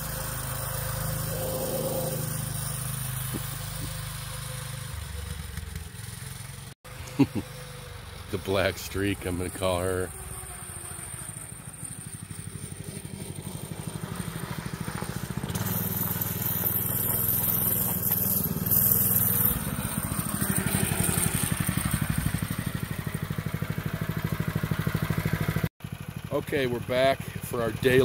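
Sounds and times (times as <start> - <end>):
mini bike engine running: 0.0 - 28.0.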